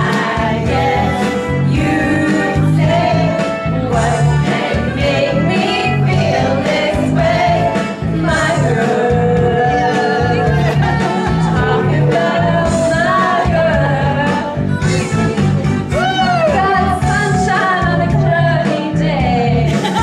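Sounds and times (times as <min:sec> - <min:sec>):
people singing along: 0:00.0 - 0:15.1, 0:15.9 - 0:20.0
pop song over sound system: 0:00.0 - 0:20.0.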